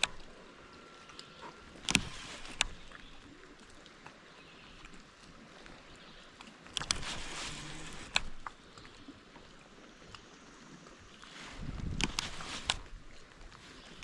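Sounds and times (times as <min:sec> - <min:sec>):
water splashing against kayak: 0:00.0 - 0:14.0.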